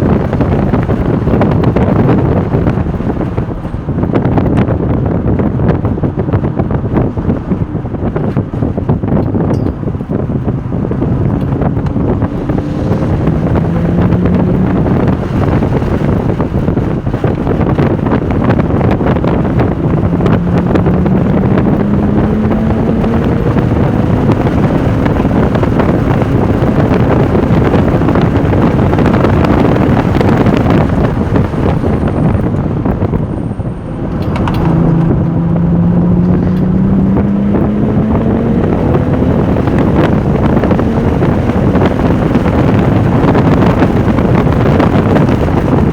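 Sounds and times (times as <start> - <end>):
car engine accelerating hard: 0.0 - 45.9
wind noise: 0.0 - 45.9.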